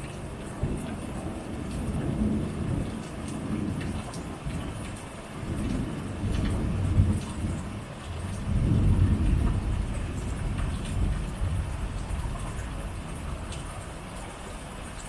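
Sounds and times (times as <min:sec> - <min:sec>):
steady rain: 0:00.0 - 0:15.0
thunder rumbling: 0:00.4 - 0:15.0
drops ticking on a surface: 0:02.7 - 0:15.0.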